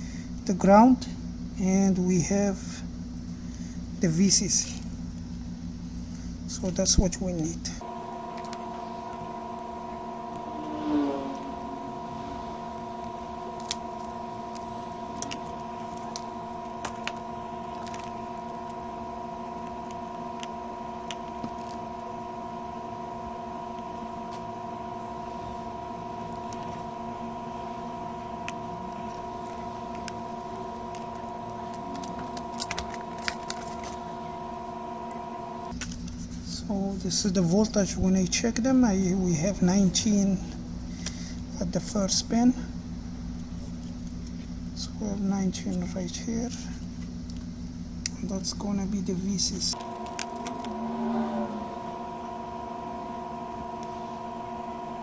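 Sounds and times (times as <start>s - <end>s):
steady hum of held tones: 0.0s - 55.0s.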